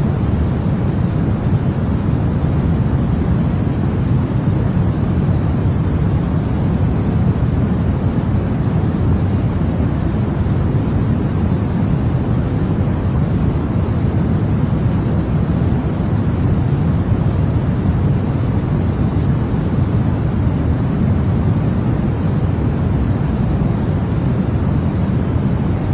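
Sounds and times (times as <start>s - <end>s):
deep white noise: 0.0s - 25.9s.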